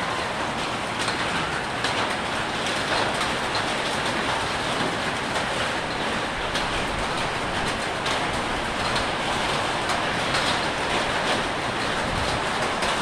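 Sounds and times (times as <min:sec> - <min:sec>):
pouring rain: 0:00.0 - 0:13.0.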